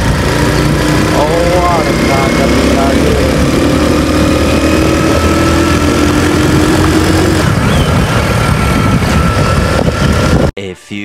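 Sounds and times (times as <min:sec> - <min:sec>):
motorcycle engine running: 0:00.0 - 0:10.5
wind noise: 0:00.0 - 0:10.6
road noise: 0:00.0 - 0:11.0.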